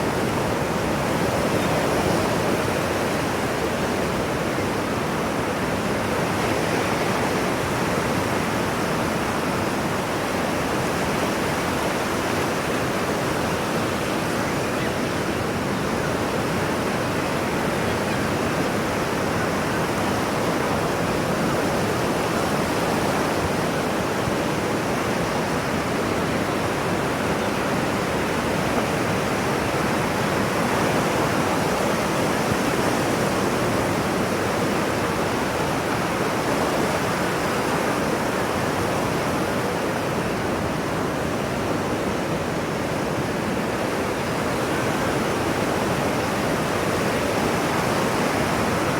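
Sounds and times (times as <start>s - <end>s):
ocean surf: 0.0s - 48.9s.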